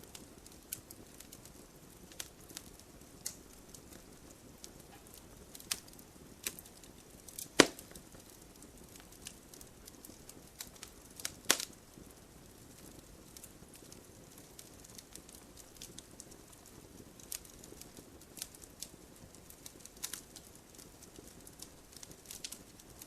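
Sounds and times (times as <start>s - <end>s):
low hiss of fire: 0.0s - 23.0s
sharp pops from burning logs: 0.0s - 23.0s
wood fire crackling: 0.0s - 23.0s.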